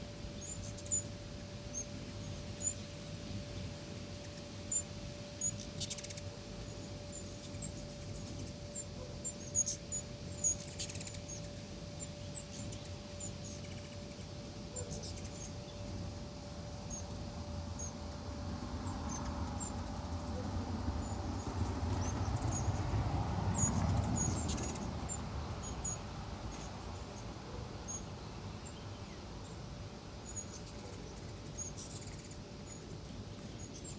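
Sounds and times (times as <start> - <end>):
hummingbird wings humming: 0.0 - 33.9
hummingbirds chipping and squeaking: 0.0 - 33.9.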